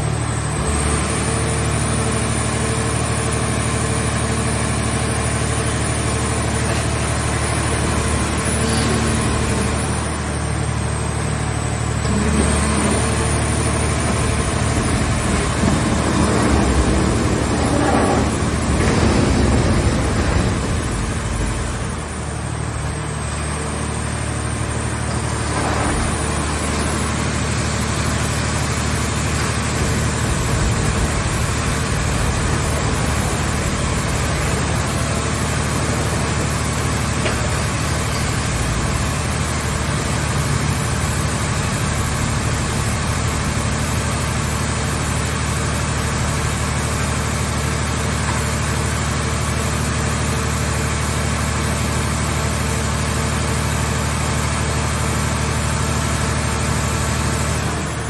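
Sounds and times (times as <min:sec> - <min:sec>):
baler engine running: 0:00.0 - 0:58.0.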